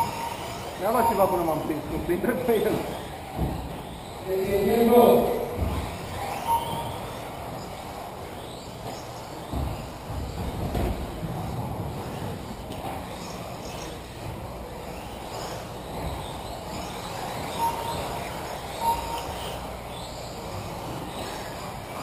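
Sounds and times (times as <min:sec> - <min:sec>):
background noise: 0:00.0 - 0:22.0
electric motors whining: 0:00.0 - 0:22.0.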